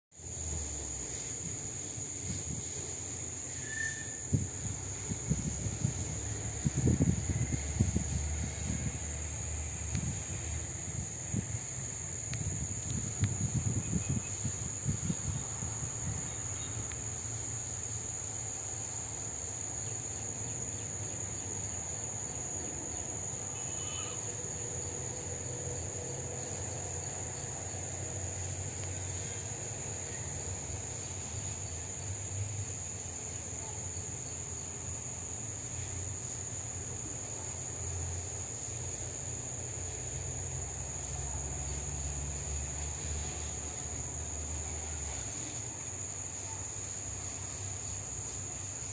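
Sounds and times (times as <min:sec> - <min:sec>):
insect chorus drone: 0:00.2 - 0:48.9.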